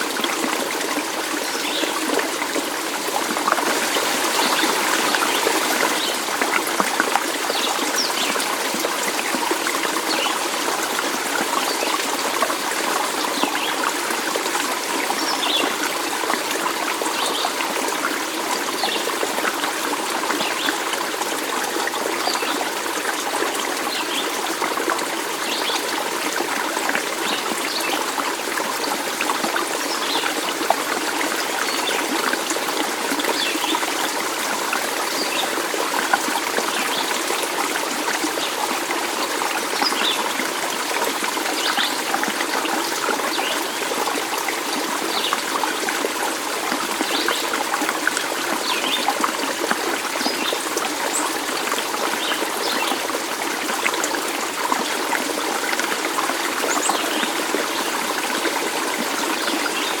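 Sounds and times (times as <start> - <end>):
stream water trickling: 0.0 - 60.0.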